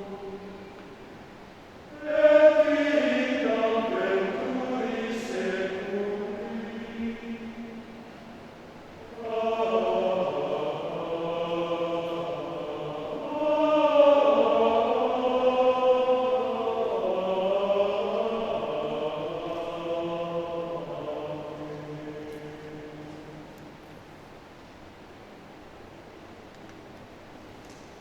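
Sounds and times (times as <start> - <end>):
men's choir singing: 0.0 - 1.1, 1.8 - 23.8.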